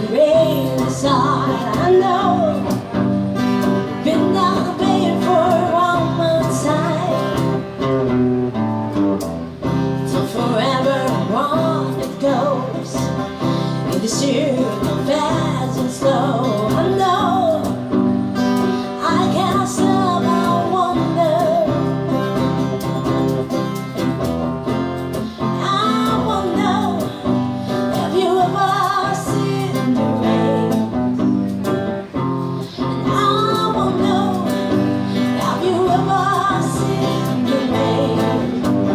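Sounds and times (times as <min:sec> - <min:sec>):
person singing: 0:00.0 - 0:03.0, 0:03.6 - 0:07.8, 0:10.0 - 0:23.0, 0:25.1 - 0:38.9
acoustic guitar chords: 0:00.0 - 0:38.9.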